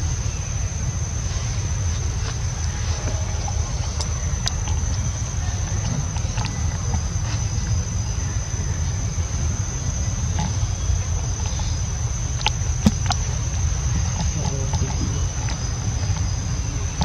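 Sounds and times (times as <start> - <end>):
high insect drone: 0.0 - 17.0
uneven low rumble: 0.0 - 17.0.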